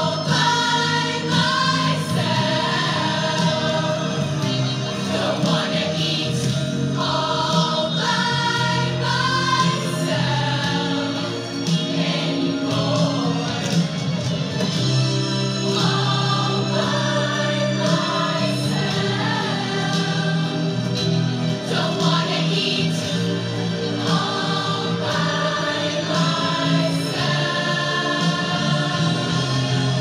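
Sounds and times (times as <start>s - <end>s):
women's chorus singing: 0.0s - 14.0s, 15.7s - 30.0s
musical accompaniment: 0.0s - 30.0s.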